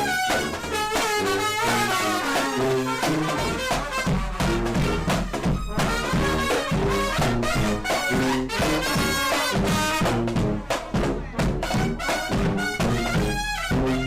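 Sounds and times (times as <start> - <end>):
upbeat swing music with brass: 0.0 - 14.0.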